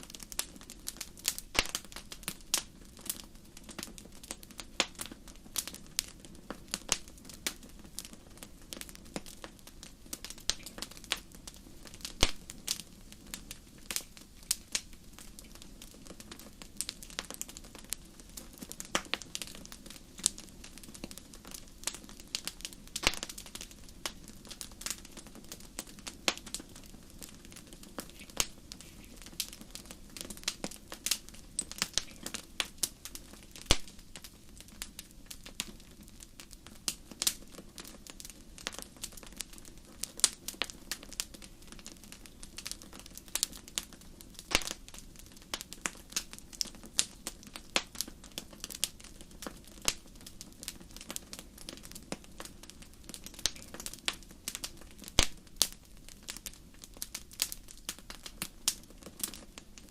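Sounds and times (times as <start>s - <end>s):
low steady fire noise: 0.0s - 59.9s
wood fire popping and snapping: 0.0s - 59.9s.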